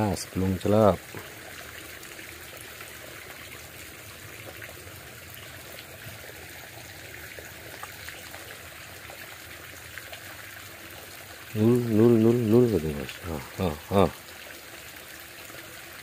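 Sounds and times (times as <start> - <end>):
creek trickling: 0.0 - 16.0.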